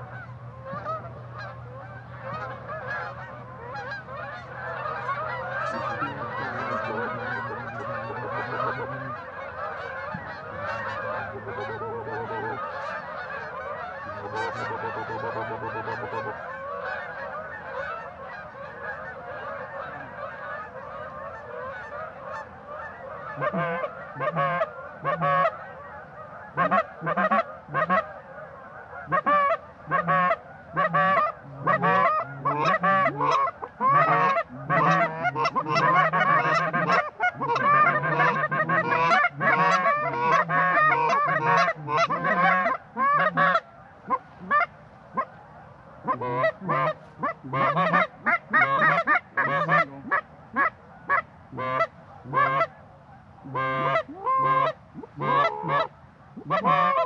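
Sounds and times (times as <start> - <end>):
close single goose honks: 0.0 - 52.8, 53.4 - 57.0
flock of geese honking: 0.0 - 57.0.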